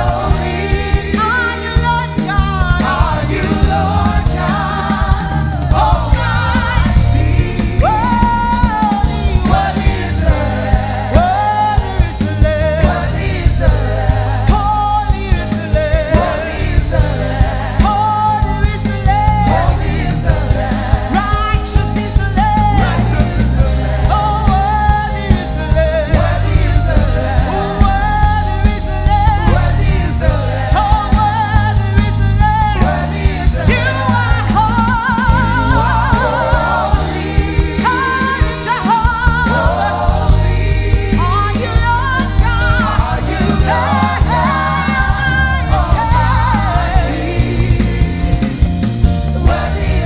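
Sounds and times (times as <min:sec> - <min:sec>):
steady drum beat: 0:00.0 - 0:50.0
worship band playing: 0:00.0 - 0:50.0.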